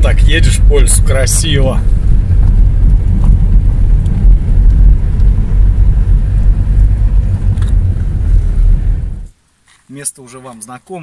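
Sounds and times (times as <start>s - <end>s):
car driving on dirt road: 0.0s - 10.7s
rumble of tyres and engine: 0.0s - 11.0s.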